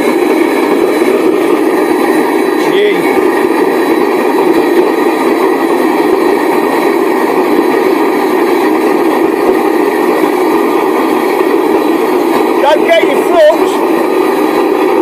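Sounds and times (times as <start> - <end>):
furnace burner roaring: 0.0 - 15.0.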